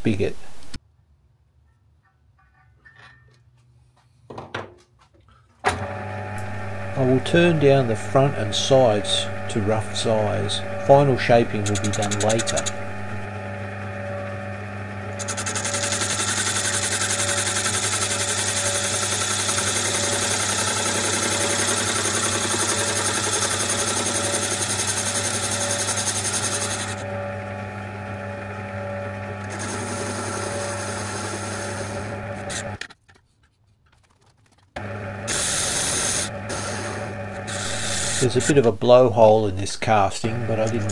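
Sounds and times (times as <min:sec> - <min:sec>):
lathe motor humming: 0:05.7 - 0:32.8, 0:34.8 - 0:40.9
lathe tool cutting metal: 0:05.7 - 0:32.8, 0:34.8 - 0:40.9.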